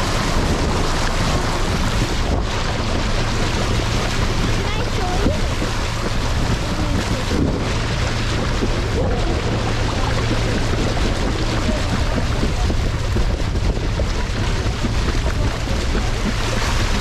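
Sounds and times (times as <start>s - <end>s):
motorboat engine humming: 0.0s - 17.0s
water rushing past hull: 0.0s - 17.0s
wind buffeting microphone: 0.0s - 17.0s.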